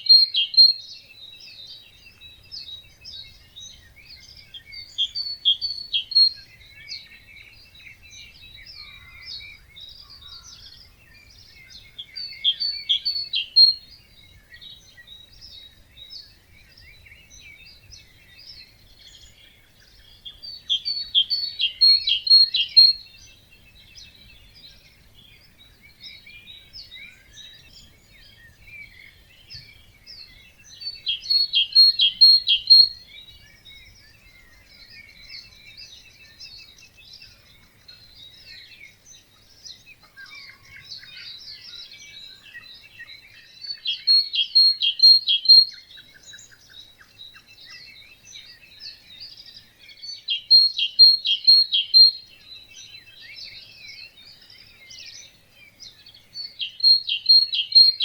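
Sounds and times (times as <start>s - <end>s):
bird singing loud rapid song: 0.0s - 58.0s
birds twittering: 0.0s - 58.0s.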